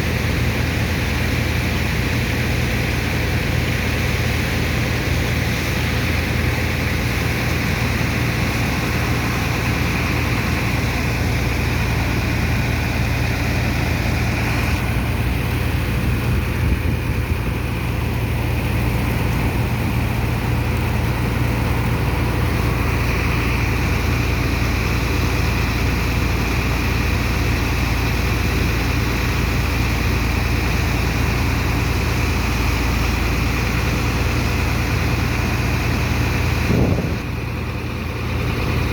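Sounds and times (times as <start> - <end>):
heavy engine and pump humming: 0.0 - 38.9.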